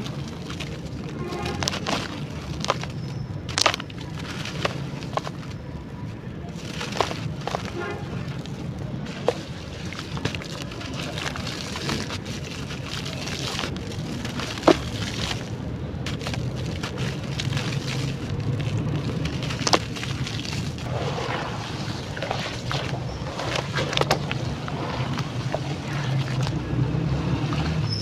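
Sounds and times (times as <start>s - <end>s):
charcoal crackling in water: 0.0s - 28.0s.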